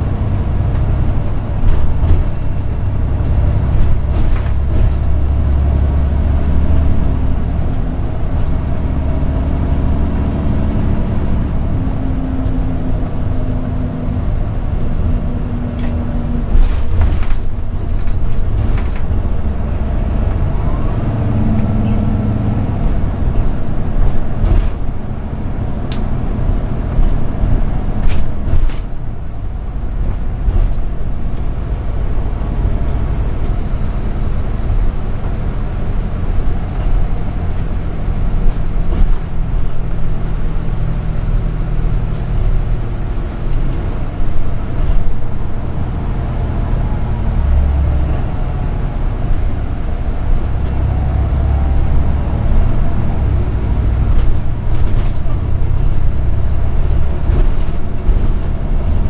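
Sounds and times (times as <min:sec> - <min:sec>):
diesel bus engine running: 0:00.0 - 0:59.0.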